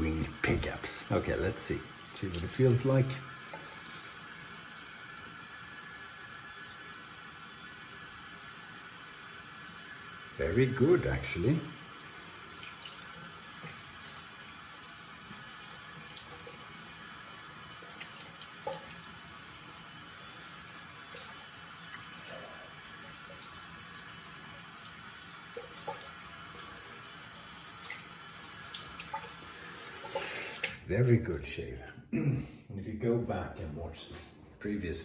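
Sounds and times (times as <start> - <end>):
tap water running into sink: 0.0 - 30.8.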